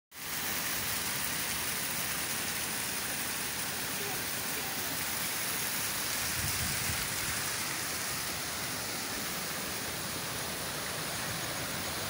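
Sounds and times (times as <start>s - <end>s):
waterfall rushing over rocks: 0.2s - 12.0s.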